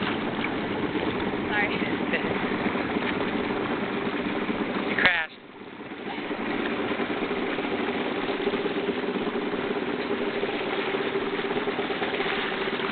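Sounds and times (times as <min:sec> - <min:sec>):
motorboat engine humming: 0:00.0 - 0:12.9
water noise: 0:00.0 - 0:12.9.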